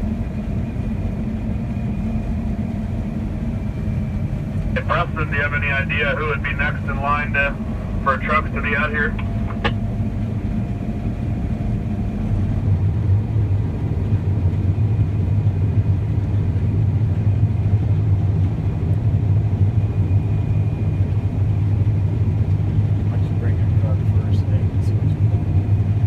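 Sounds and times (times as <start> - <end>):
combine harvester drone: 0.0 - 26.0.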